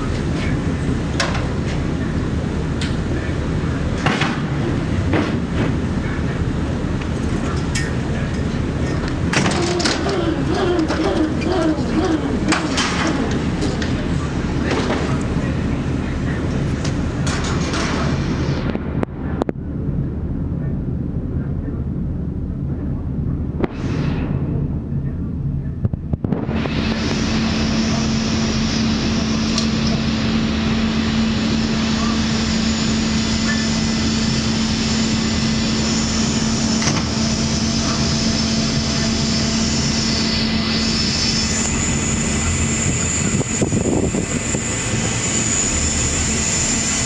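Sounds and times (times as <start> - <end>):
constant hum: 0.0 - 47.0
dense rushing noise: 0.0 - 47.0
ferry diesel engines rumbling: 0.0 - 47.0.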